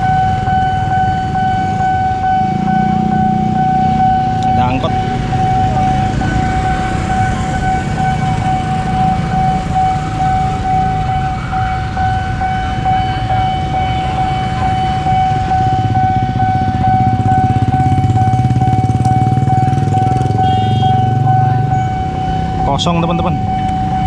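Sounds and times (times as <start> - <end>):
level crossing alarm tone: 0.0 - 24.0
vehicle engines idling: 0.0 - 24.0.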